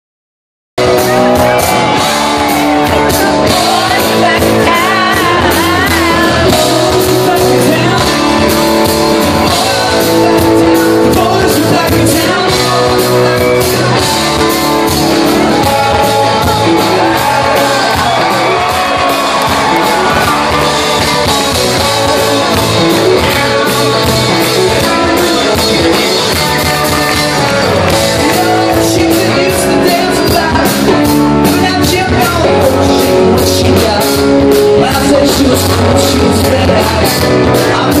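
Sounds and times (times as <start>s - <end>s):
lead singer singing: 0.8s - 38.0s
live rock band playing: 0.8s - 38.0s.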